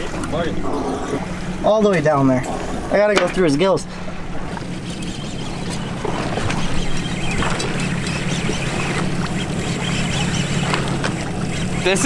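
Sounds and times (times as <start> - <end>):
outboard engines humming: 0.0 - 12.0
water noise: 0.0 - 12.0
wind: 0.0 - 12.0.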